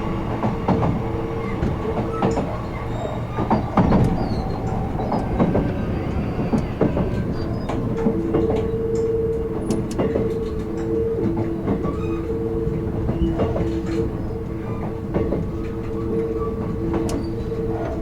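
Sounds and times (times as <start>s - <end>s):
steady humming tones: 0.0s - 18.0s
train rumbling: 0.0s - 18.0s
wheels clicking over rail joints: 0.0s - 18.0s.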